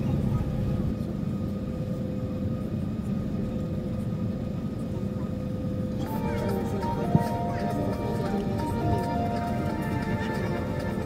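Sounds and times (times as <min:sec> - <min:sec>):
aircraft cabin rumble: 0:00.0 - 0:11.0
faint engine whine: 0:00.0 - 0:11.0.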